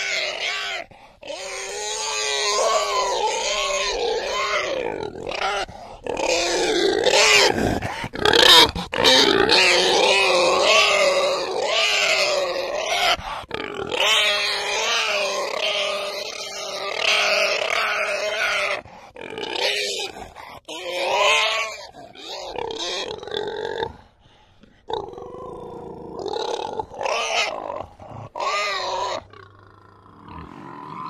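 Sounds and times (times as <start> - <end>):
pigs grunting and squealing: 0.0 - 31.0.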